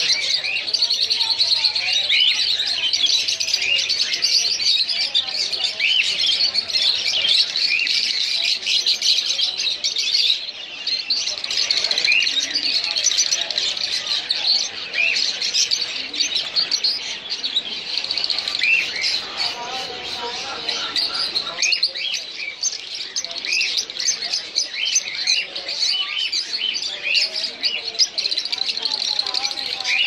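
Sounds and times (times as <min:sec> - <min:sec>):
budgerigars chirping and warbling: 0:00.0 - 0:30.0.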